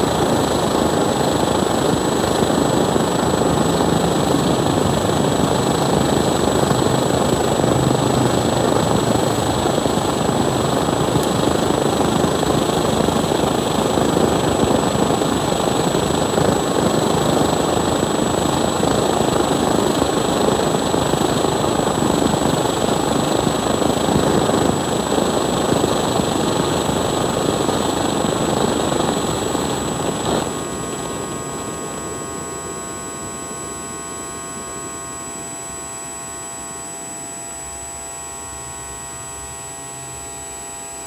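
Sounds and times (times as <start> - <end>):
high thin whine: 0.0 - 41.0.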